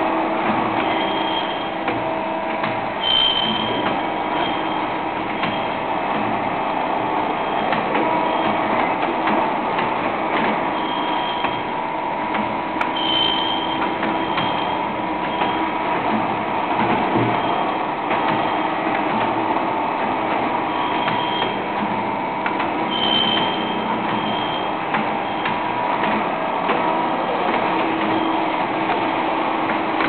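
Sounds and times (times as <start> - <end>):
machine mechanical hum: 0.0 - 30.0.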